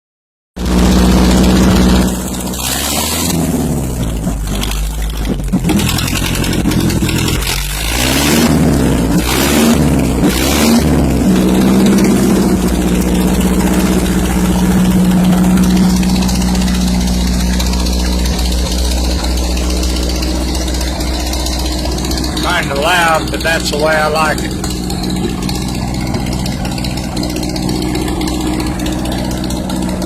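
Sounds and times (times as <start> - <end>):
tractor engine revving: 0.6 - 30.0.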